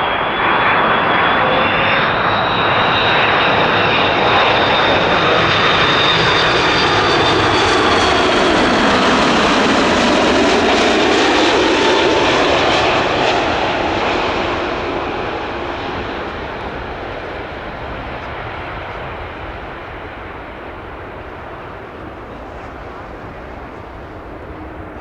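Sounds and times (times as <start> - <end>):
jet airliner passing close: 0.0 - 25.0.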